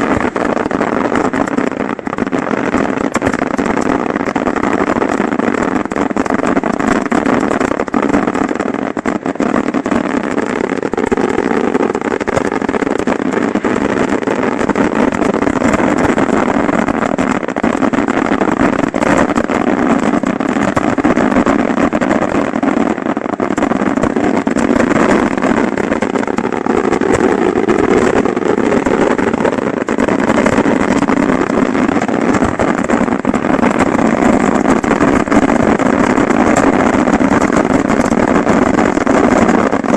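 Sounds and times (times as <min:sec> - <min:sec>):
fireworks explosions barrage: 0:00.0 - 0:39.9.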